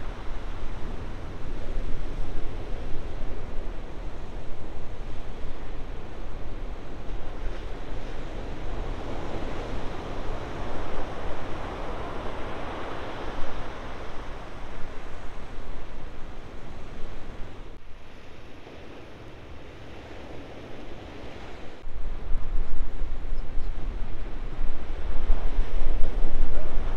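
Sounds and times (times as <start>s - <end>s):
ocean waves breaking: 0.0s - 21.8s
wind rumbling on microphone: 0.0s - 26.9s.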